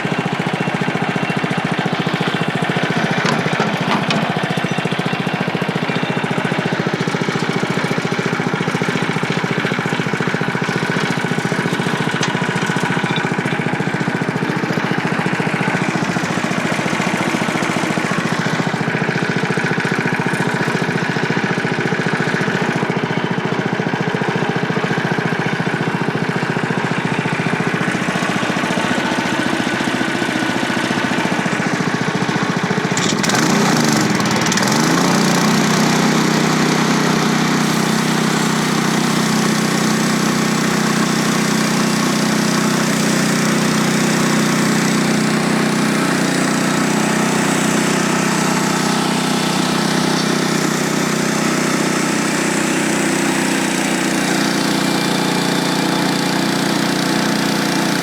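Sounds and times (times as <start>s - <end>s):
bandsaw sawmill engine running: 0.0s - 58.0s.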